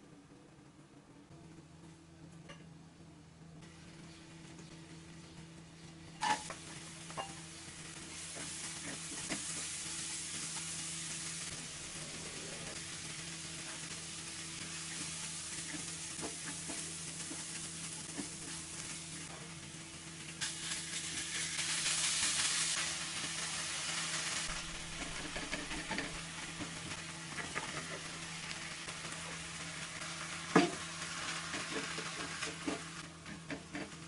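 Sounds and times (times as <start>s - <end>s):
onion and garlic sizzling in a wok: 1.4s - 34.0s.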